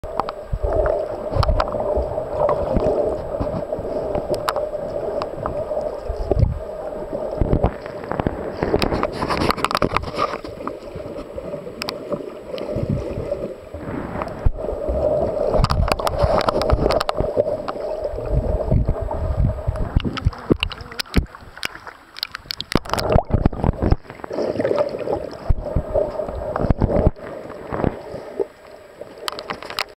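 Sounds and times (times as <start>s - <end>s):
water sloshing and gurgling: 0.0s - 30.0s.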